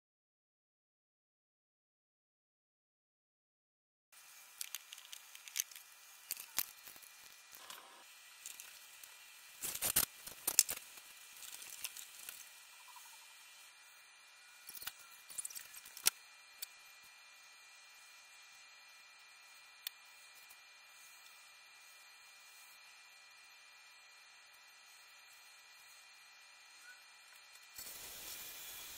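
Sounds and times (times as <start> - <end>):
room tone hiss: 4.2 - 28.9.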